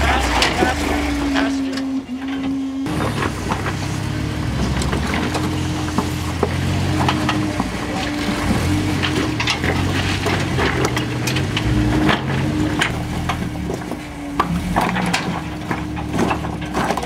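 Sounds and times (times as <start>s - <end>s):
engine running under load: 0.0s - 17.0s
tyres scraping against rock: 2.8s - 17.0s.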